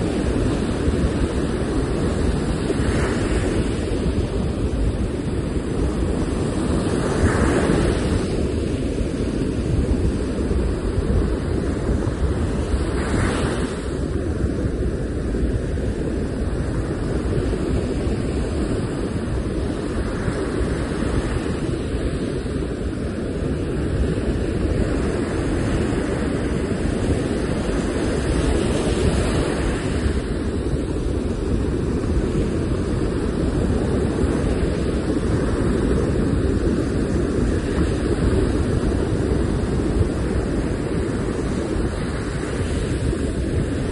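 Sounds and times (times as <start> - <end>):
surf washing up a beach: 0.0 - 43.9
wind rumble on microphone: 0.0 - 43.9.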